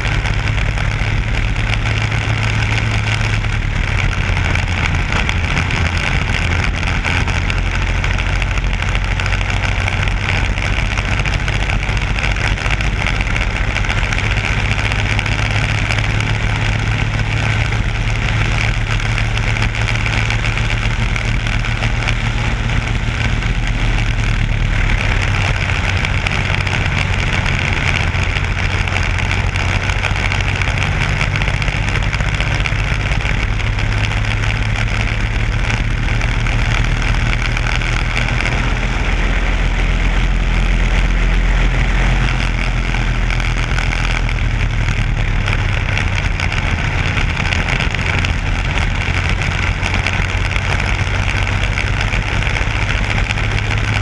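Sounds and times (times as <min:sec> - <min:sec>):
kart engine running: 0:00.0 - 0:54.0.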